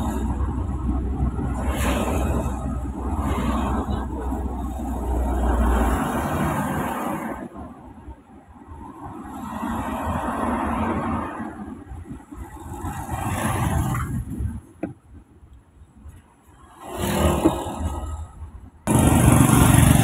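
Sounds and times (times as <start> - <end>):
road noise inside moving car: 0.0 - 20.0.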